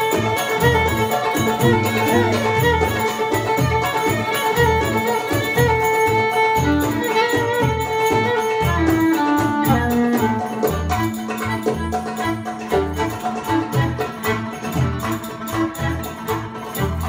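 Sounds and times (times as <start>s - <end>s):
hand drum beating rhythm: 0.0s - 17.0s
mandolin: 0.0s - 17.0s
violin melody: 0.0s - 17.0s.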